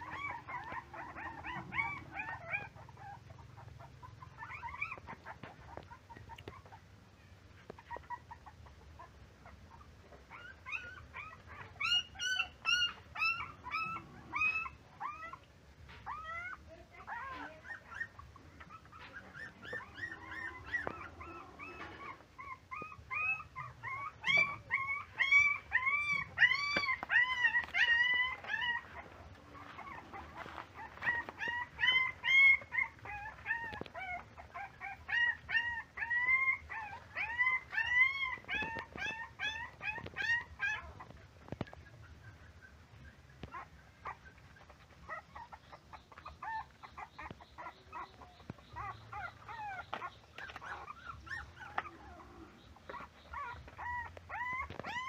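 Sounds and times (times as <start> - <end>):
puppies whimpering and whining: 0.0 - 55.0.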